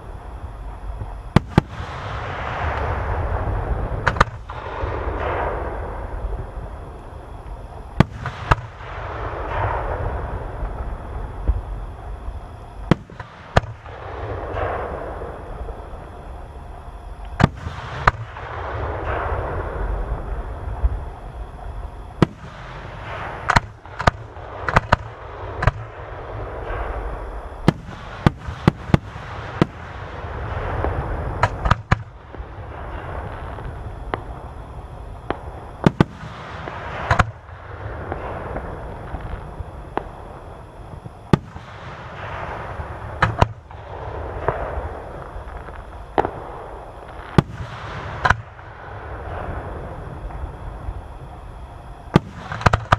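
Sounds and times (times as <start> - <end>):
low rumble: 0.0 - 52.6
fireworks bangs: 1.0 - 16.4, 17.3 - 52.9.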